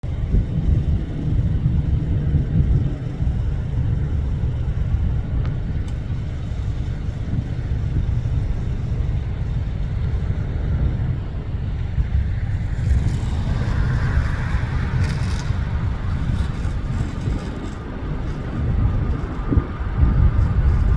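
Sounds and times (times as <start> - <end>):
distant jet engines rumbling: 0.0 - 20.9
wind on microphone: 0.0 - 20.9.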